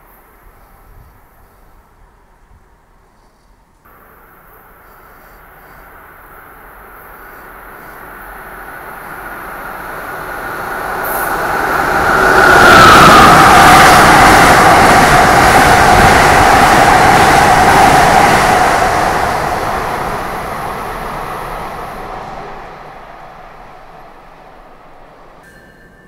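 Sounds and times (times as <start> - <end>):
train passing: 3.9 - 26.0.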